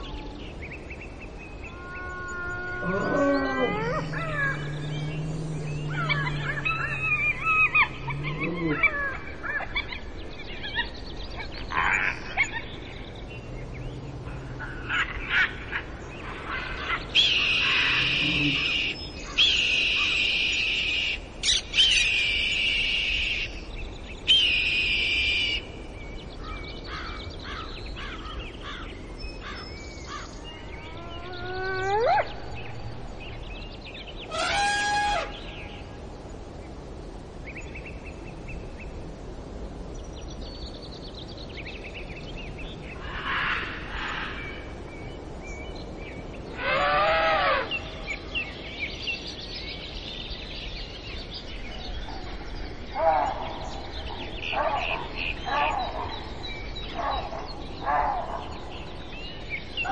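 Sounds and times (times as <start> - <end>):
wild bird calls: 0.0 - 37.9, 41.6 - 49.1, 49.8 - 59.9
outdoor ambience: 0.0 - 59.9.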